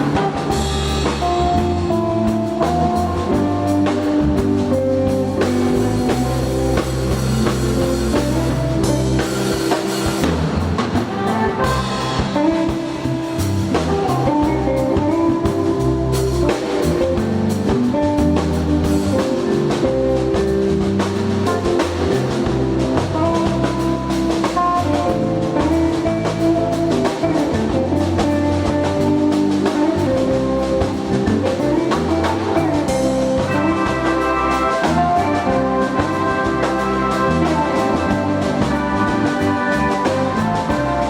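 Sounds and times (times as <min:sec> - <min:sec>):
bass: 0:00.0 - 0:41.0
drum kit: 0:00.0 - 0:41.0
melodic guitar lines: 0:00.0 - 0:41.0.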